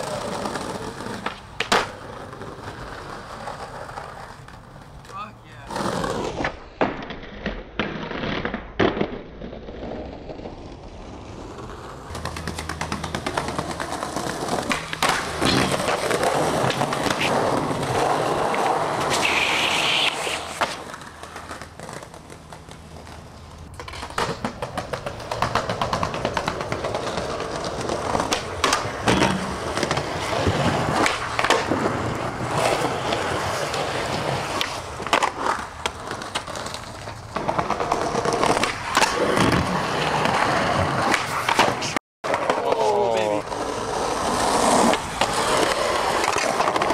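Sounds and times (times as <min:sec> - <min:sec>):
skateboard clacks: 0:00.0 - 0:46.9
skateboards rolling on pavement: 0:00.0 - 0:46.9.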